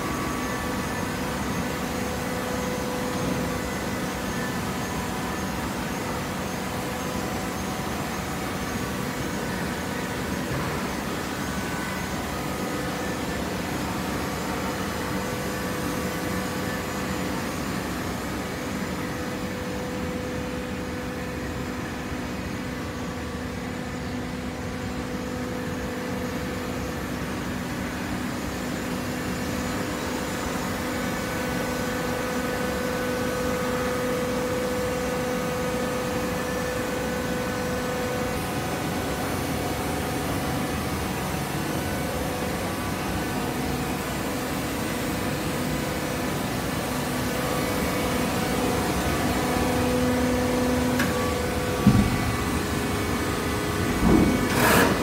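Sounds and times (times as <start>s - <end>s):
baler machine hum with whine: 0.0s - 55.0s.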